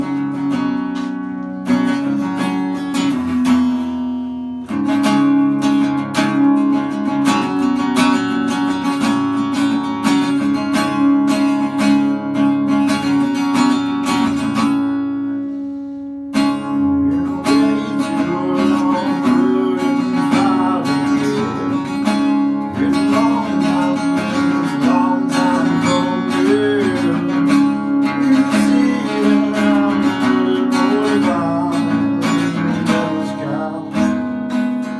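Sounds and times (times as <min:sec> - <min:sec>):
acoustic guitar music: 0:00.0 - 0:34.9.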